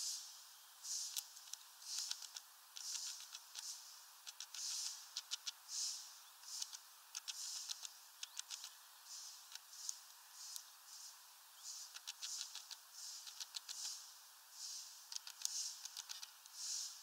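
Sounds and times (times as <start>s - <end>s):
bird clicking call notes: 1.1s - 10.7s, 11.7s - 14.0s, 15.1s - 16.8s
small bird chirps: 1.8s - 17.0s.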